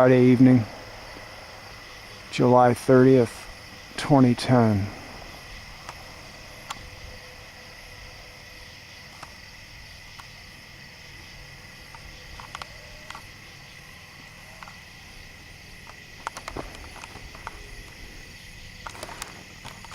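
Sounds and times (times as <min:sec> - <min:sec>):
crickets and night insects trilling: 0:00.0 - 0:19.9.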